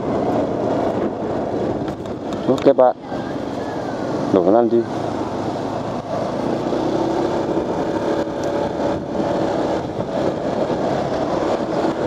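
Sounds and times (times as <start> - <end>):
motorcycle engine running: 0.0 - 12.0
wind rushing noise: 0.0 - 12.0.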